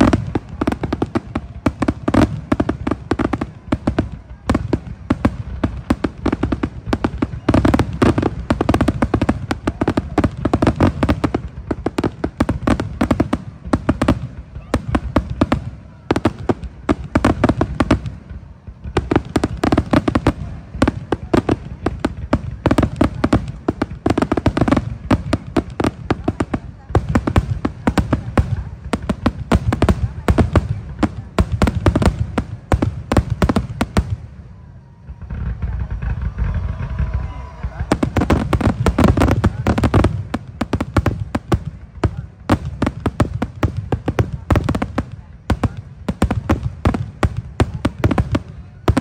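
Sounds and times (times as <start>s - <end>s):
firework shells bursting and crackling: 0.0s - 34.4s, 35.1s - 49.0s.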